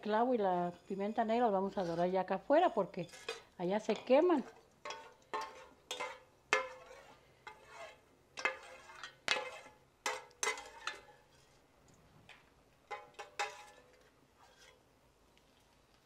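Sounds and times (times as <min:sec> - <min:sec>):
spoon scraping in frying pan: 0:00.1 - 0:11.7, 0:12.9 - 0:14.8.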